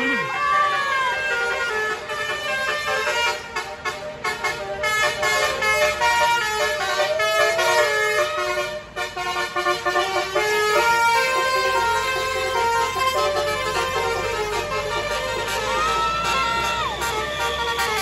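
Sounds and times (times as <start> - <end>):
musical bus horn tune: 0.0 - 18.0.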